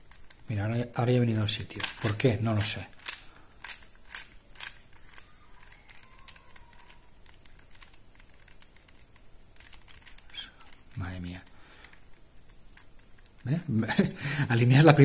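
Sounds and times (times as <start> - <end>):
plastic puzzle clicking and rattling: 0.0 - 13.8.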